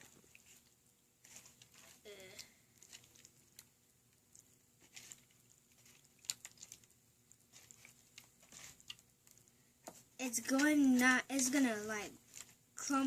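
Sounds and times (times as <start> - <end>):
slime clicking and squelching: 0.0 - 13.0.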